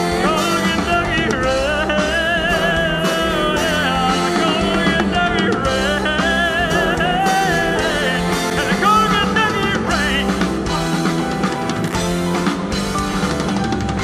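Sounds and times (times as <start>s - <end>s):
rock band playing a ballad: 0.0s - 14.0s.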